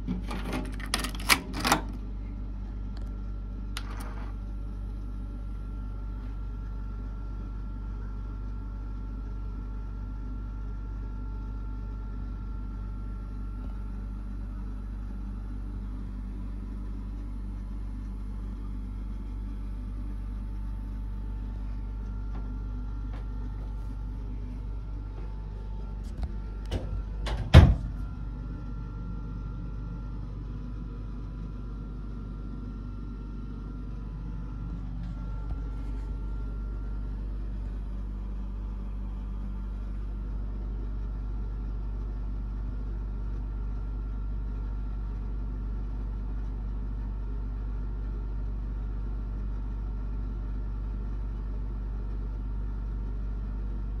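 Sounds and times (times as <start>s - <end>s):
stereo system low hum: 0.0s - 54.0s.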